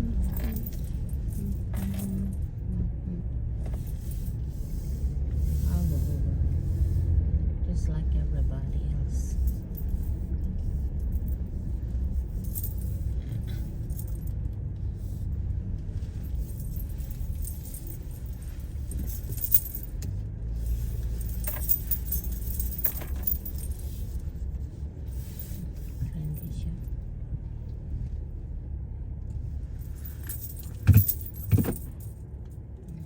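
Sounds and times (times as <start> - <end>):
light jingling and rattles: 0.0 - 2.6, 3.6 - 7.2, 9.3 - 27.1, 29.4 - 33.0
car road rumble: 0.0 - 33.0.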